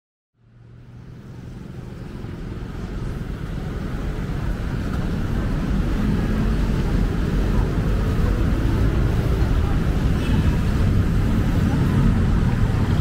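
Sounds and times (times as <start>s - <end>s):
city street traffic rumble: 0.4s - 13.0s.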